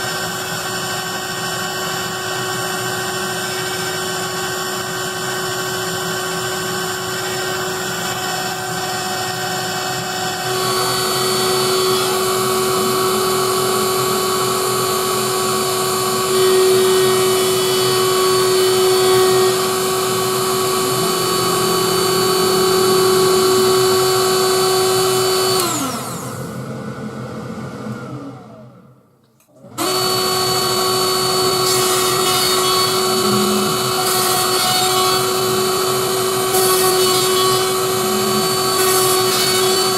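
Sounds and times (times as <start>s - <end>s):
spindle motor whining: 0.0s - 28.9s, 29.6s - 39.9s.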